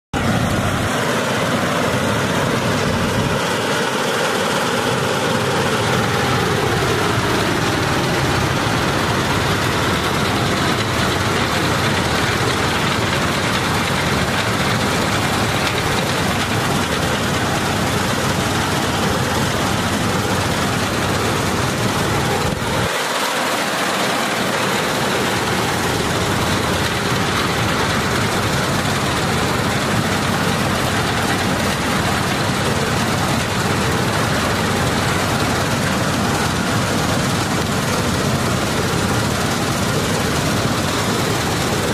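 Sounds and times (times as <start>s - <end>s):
combine harvester running: 0.2s - 41.9s.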